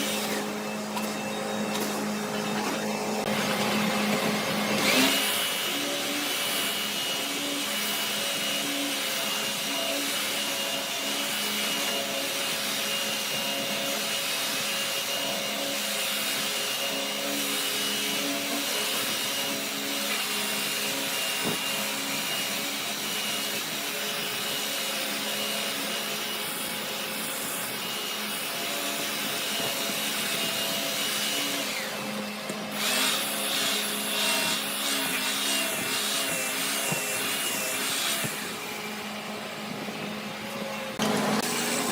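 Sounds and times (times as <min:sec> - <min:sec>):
woodworking machine whine: 0:00.0 - 0:41.9.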